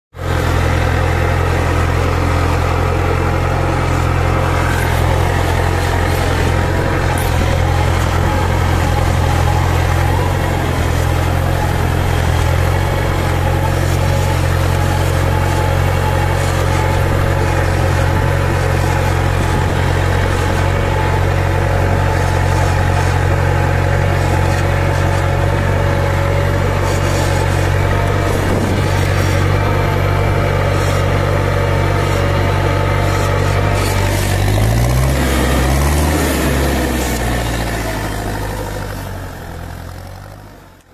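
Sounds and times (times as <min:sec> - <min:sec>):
tractor diesel engine drone: 0:00.1 - 0:40.9.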